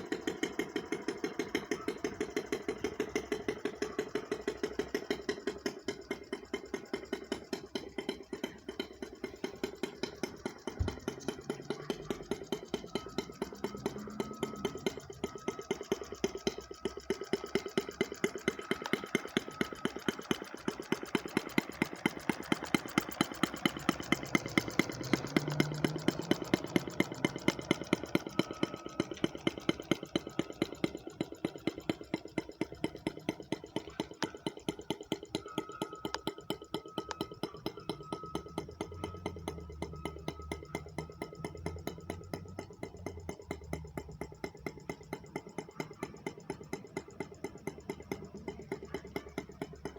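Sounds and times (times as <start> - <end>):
rc boat gas engine running: 0.0 - 49.9
sharp clicks: 0.0 - 49.9.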